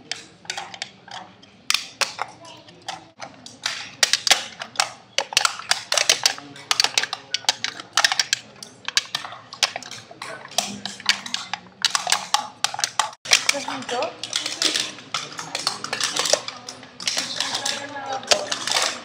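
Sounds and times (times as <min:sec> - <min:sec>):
aluminium cans clicking and crackling: 0:00.0 - 0:19.0.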